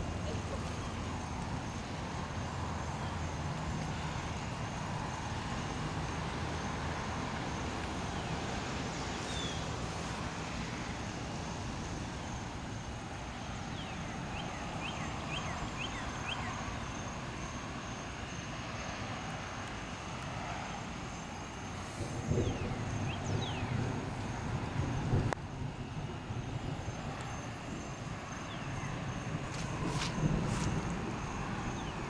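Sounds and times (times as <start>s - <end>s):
steady outdoor rushing noise: 0.0s - 32.0s.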